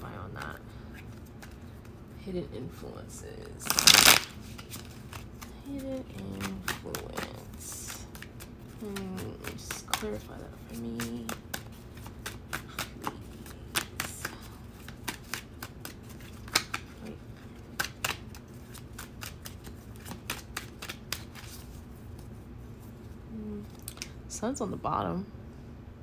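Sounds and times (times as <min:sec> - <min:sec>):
cards being shuffled: 0:00.2 - 0:02.1, 0:03.6 - 0:24.1.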